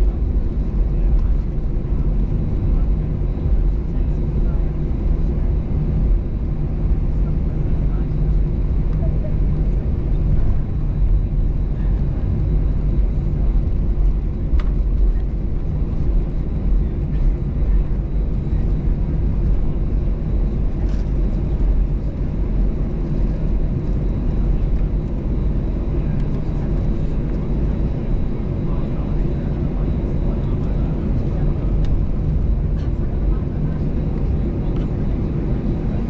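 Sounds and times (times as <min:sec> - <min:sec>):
aircraft cabin engine rumble: 0:00.0 - 0:36.0.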